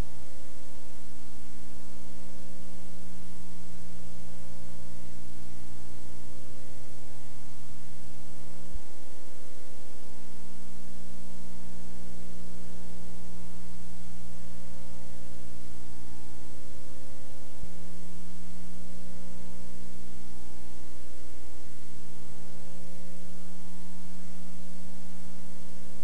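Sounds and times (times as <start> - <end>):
electrical hum: 0.0 - 26.0
tape hiss: 0.0 - 26.0.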